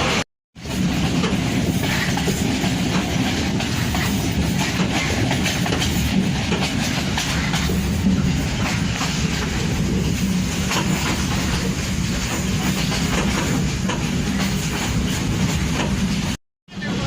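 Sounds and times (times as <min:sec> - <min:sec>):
train rumbling along track: 0:00.0 - 0:17.0
wheels clicking over rail joints: 0:00.7 - 0:16.4.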